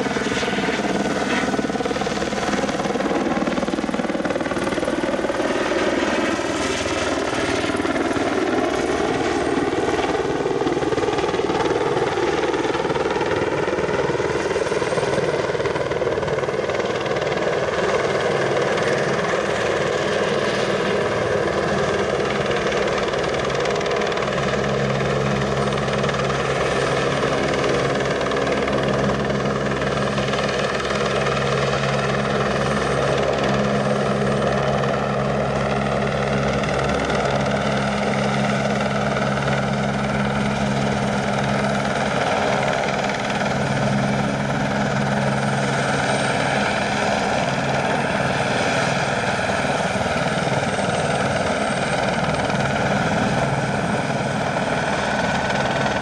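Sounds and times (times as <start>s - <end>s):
helicopter rotor and turbine: 0.0s - 56.0s
low rotor hum: 0.0s - 56.0s.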